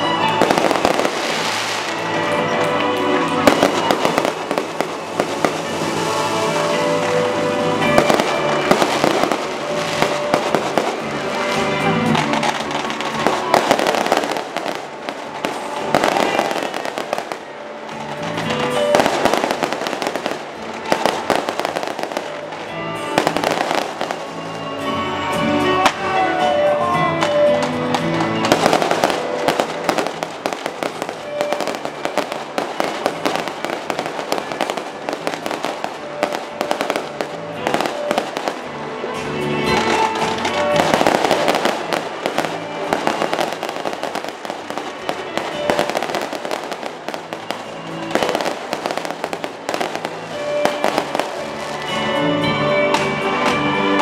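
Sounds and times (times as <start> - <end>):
fireworks bangs: 0.0 - 25.0, 27.2 - 54.0
music playing: 0.0 - 54.0.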